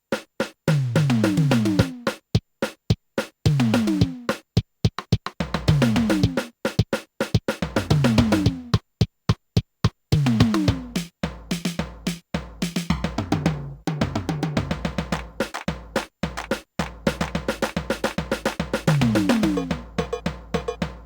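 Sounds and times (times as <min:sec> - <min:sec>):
keyboard drum pattern: 0:00.1 - 0:21.0.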